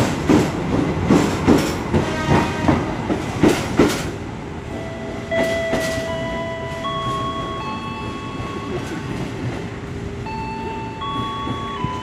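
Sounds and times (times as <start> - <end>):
train rumble: 0.0 - 12.0
train wheels clicking on rails: 0.0 - 12.0.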